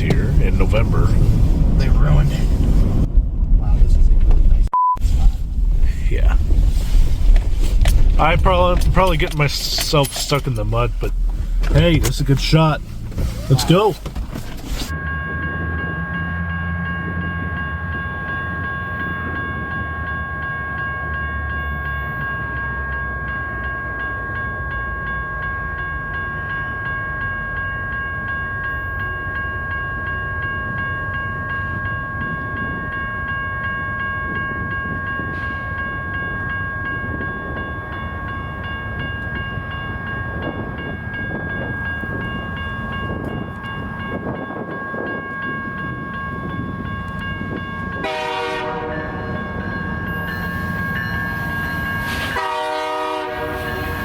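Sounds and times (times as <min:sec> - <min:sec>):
train rumbling past: 0:00.0 - 0:13.3, 0:14.9 - 0:54.0.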